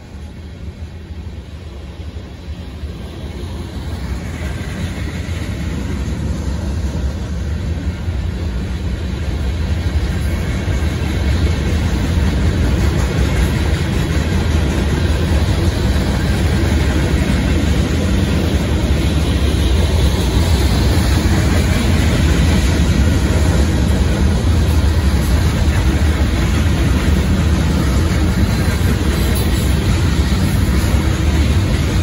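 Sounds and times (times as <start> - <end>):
freight train wheels rumbling: 0.0 - 32.0.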